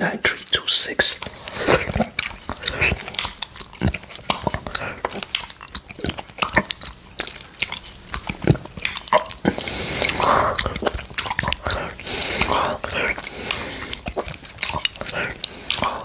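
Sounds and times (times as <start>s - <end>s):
tongue licking a glass plate: 1.2s - 16.0s.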